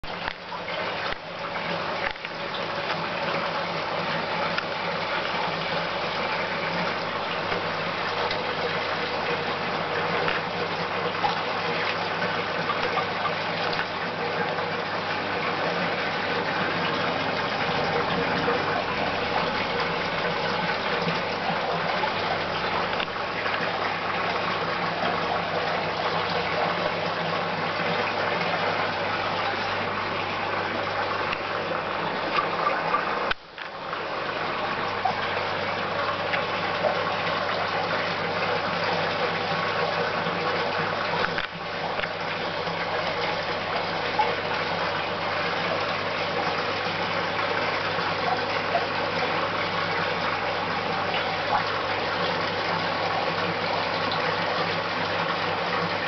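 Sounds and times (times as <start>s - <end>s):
low pump hum: 0.0s - 56.0s
water gushing and splashing: 0.0s - 56.0s.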